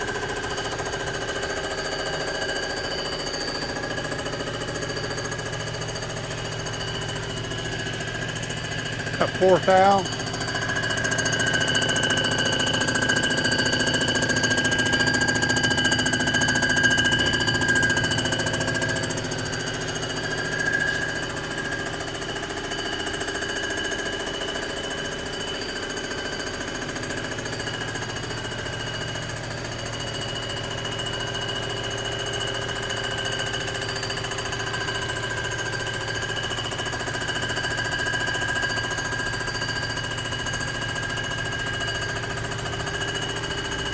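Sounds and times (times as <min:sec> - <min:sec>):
high ringing cutter whine: 0:00.2 - 0:43.9.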